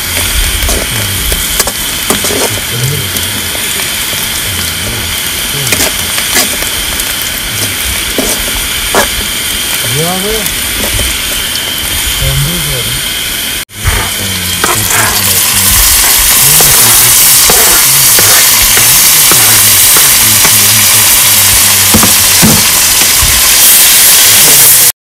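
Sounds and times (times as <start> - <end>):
steady crackling hiss: 0.0 - 24.9.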